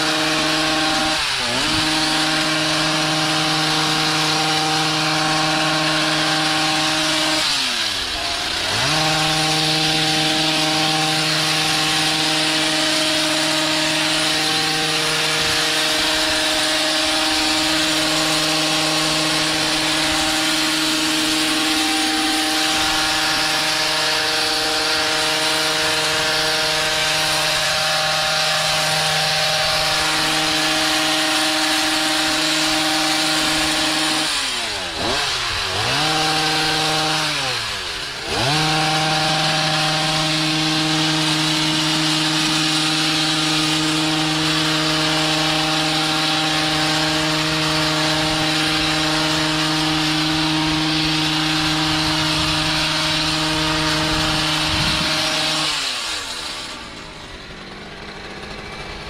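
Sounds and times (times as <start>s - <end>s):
hedge trimmer engine revving: 0.0s - 59.0s.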